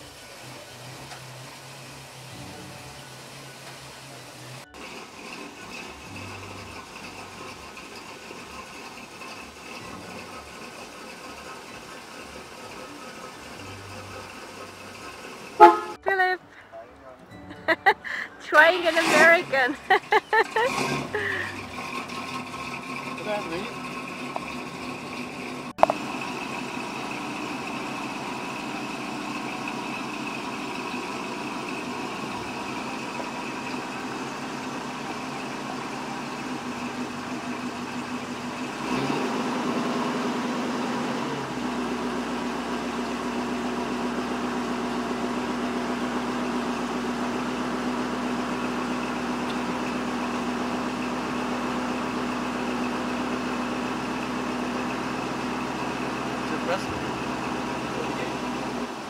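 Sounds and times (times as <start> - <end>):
convertible top motor whir: 0.0 - 15.9, 18.5 - 59.0
car engine idling: 0.0 - 59.0.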